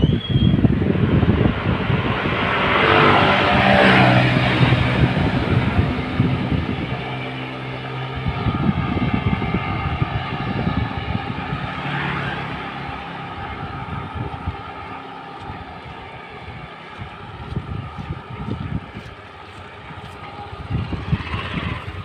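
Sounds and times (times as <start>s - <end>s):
road noise: 0.0s - 22.0s
vehicle engine running: 0.0s - 22.0s
wind buffeting microphone: 0.0s - 22.0s.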